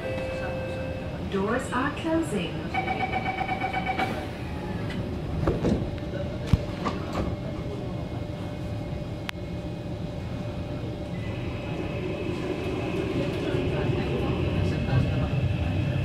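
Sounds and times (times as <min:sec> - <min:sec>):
steady low train hum: 0:00.0 - 0:16.0.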